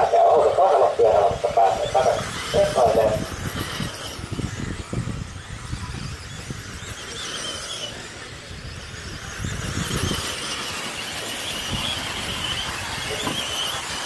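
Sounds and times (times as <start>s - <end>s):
wind rumble on microphone: 0.0s - 10.6s, 11.5s - 14.0s
rc car motors whining: 0.0s - 14.0s.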